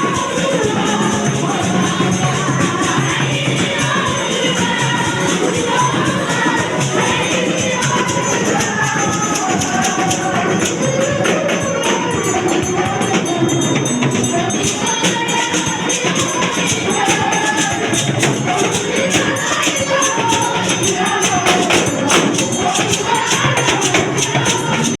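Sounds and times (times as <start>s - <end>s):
tambourine jingling: 0.0s - 25.0s
voices singing together: 0.0s - 25.0s.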